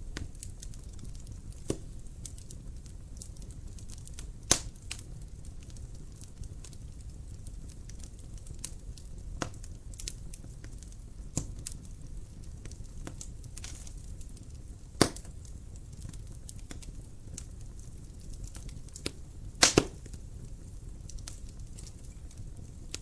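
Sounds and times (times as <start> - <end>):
fire crackling in fireplace: 0.0 - 23.0
low fire rumble: 0.0 - 23.0.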